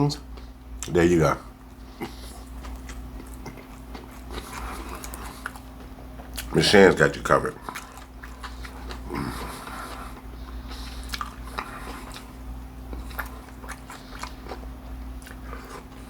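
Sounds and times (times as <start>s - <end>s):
steady low hum: 0.0s - 16.0s
crunchy chewing: 0.3s - 6.6s, 7.5s - 16.0s.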